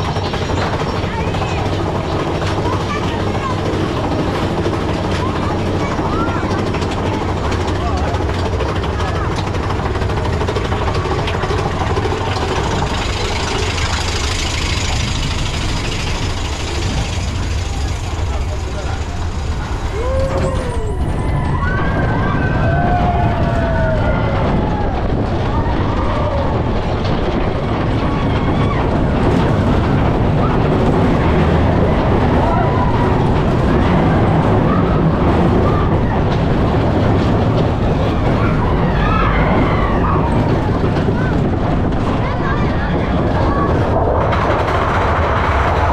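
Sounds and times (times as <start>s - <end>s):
roller coaster wheels rumbling on rails: 0.0s - 45.9s.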